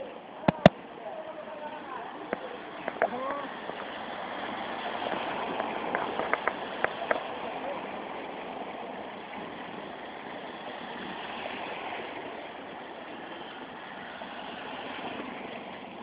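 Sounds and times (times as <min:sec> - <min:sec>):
bicycle tyres through water: 0:00.0 - 0:16.0.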